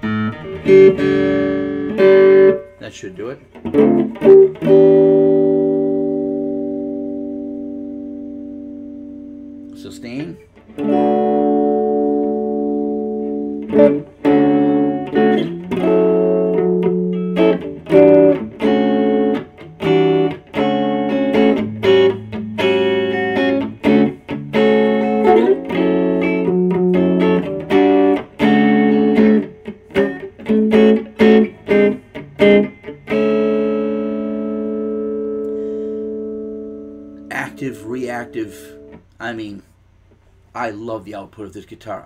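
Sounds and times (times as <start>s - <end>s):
clean electric guitar playing: 0.0s - 39.6s.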